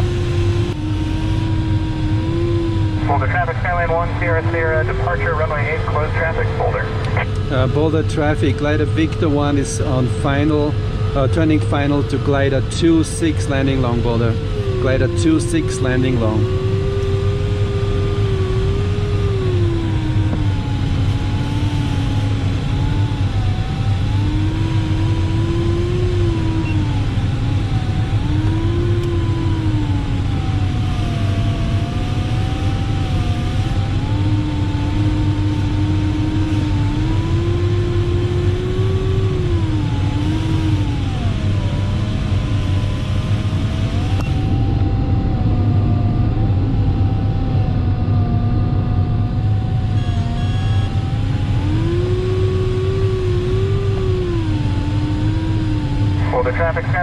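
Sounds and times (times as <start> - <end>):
variometer tone wandering in pitch: 0.0 - 5.0, 12.8 - 56.3.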